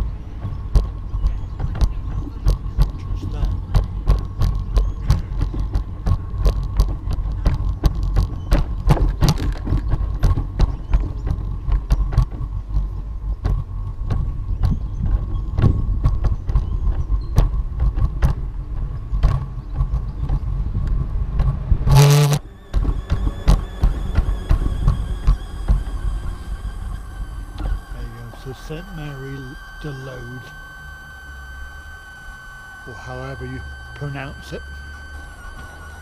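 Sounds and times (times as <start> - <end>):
faint steady whine: 0.0 - 36.0
low rumble: 0.0 - 36.0.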